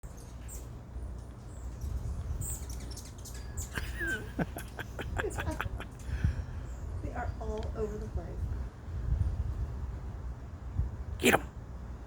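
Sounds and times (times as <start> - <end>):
hummingbirds chirping: 0.0 - 10.2.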